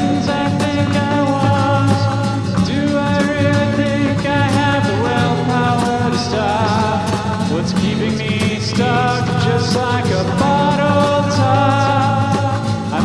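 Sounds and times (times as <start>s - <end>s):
rock song with guitar: 0.0s - 13.0s.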